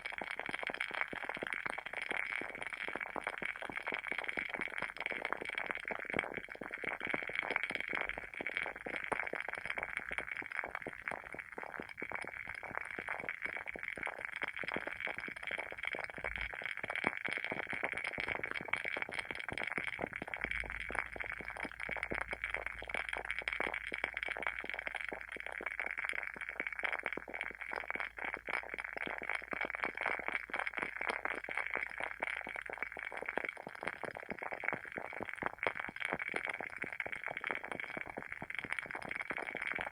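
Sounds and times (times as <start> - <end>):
candle wicks crackling: 5.2 - 39.9.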